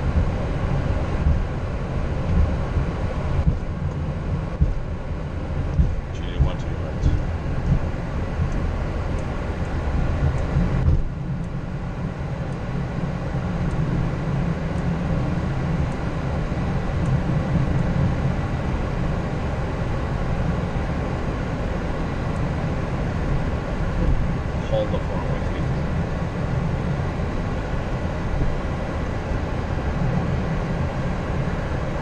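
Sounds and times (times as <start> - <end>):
aircraft engines idling rumble: 0.0 - 32.0.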